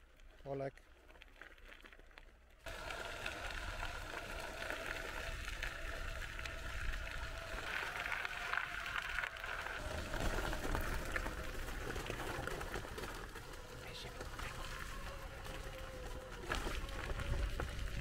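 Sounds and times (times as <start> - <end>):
tyres rolling on gravel: 0.0 - 18.0
electric wheelchair motor whine: 2.7 - 18.0.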